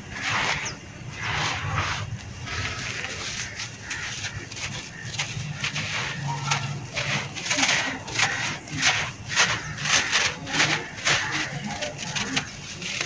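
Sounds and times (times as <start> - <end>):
sand crunching in a gloved hand: 0.0 - 12.2.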